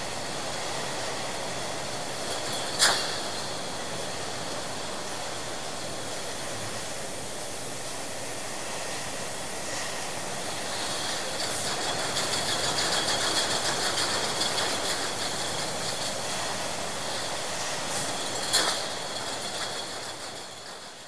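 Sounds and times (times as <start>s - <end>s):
steady machine noise: 0.0s - 21.0s.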